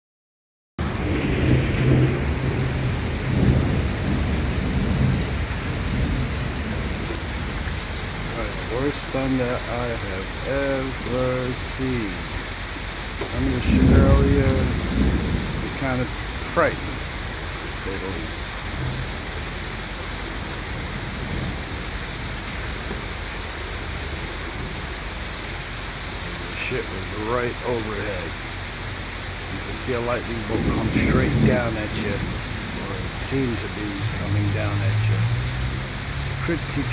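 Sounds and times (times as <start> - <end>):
low thunder rumble: 0.8 - 12.4, 13.3 - 25.2, 29.4 - 36.9
rain hiss: 0.8 - 36.9.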